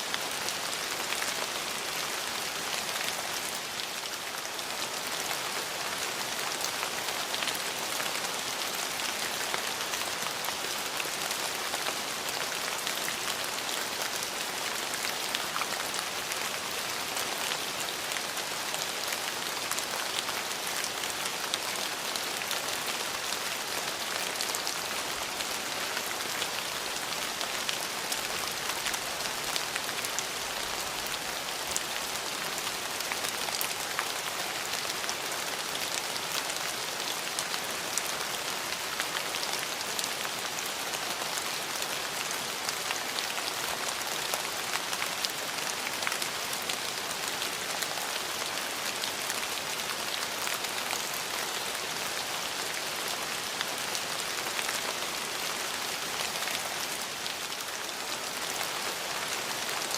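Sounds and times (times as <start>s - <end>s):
rain falling: 0.0s - 59.9s
raindrops pattering on surfaces: 0.1s - 59.9s.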